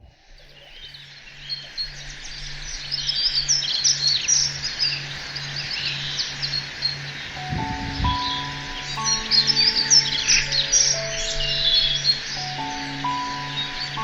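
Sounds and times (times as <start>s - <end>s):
flock of birds chirping: 0.0s - 14.0s.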